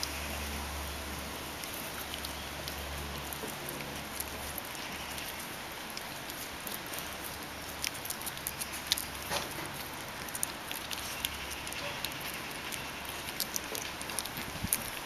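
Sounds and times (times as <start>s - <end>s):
puppies scuffing on stone paving: 0.0s - 15.0s.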